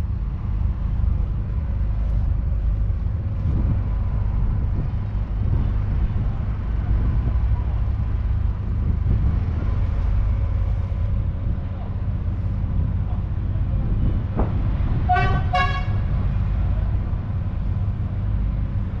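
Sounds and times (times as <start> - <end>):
diesel engine rumbling: 0.0 - 19.0
faint engine whine: 0.0 - 19.0.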